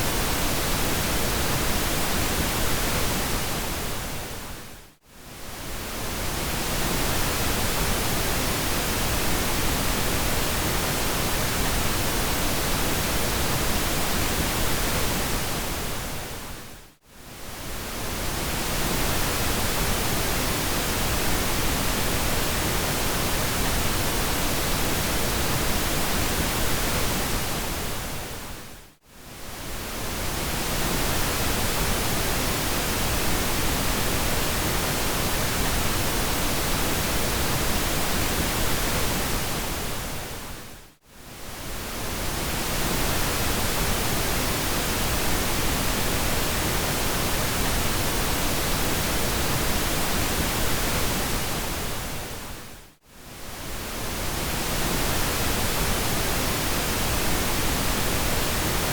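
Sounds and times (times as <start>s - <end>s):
steady pink noise hiss: 0.0s - 58.9s.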